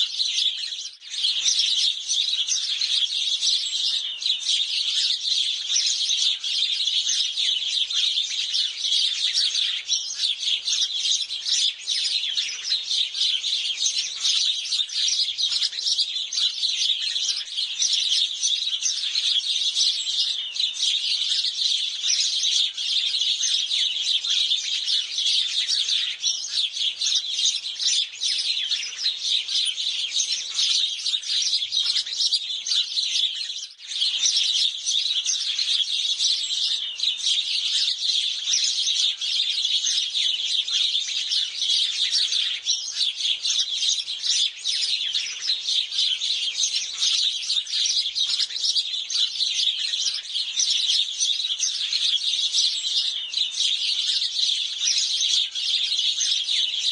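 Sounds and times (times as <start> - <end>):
sparrows chirping: 0.0 - 56.9.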